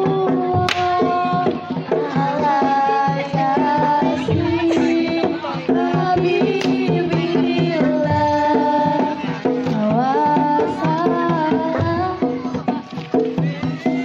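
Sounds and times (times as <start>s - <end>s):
hand drums beat: 0.0s - 14.0s.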